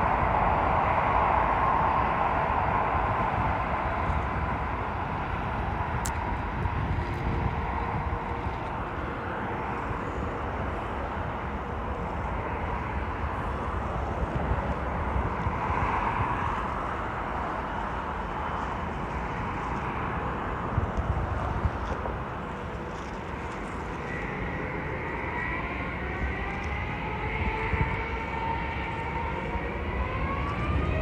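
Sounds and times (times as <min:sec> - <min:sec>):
jet airliner engine roar: 0:00.0 - 0:31.0.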